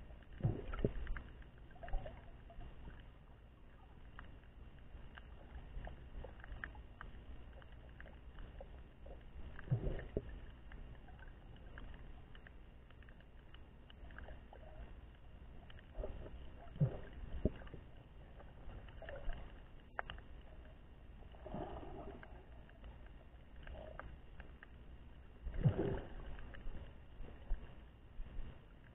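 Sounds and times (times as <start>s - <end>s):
faint clicks and crackles: 0.0s - 28.9s
underwater rumble: 0.0s - 28.9s.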